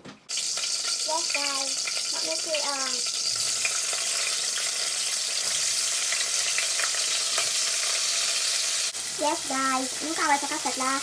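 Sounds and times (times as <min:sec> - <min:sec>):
food sizzling in hot oil: 0:00.3 - 0:11.0.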